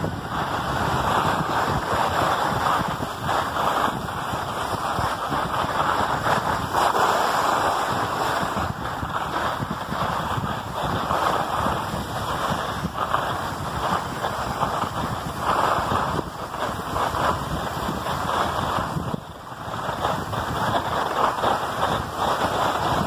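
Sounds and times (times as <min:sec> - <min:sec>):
skis hissing on snow: 0:00.0 - 0:23.0
wind buffeting microphone: 0:00.0 - 0:23.0.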